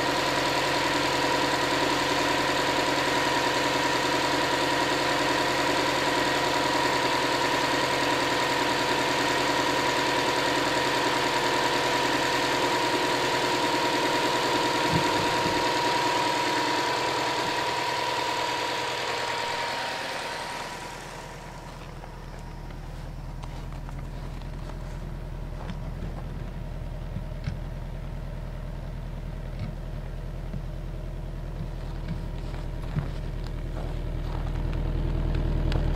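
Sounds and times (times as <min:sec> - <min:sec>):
car engine idling: 0:00.0 - 0:35.9
constant whine: 0:00.0 - 0:35.9.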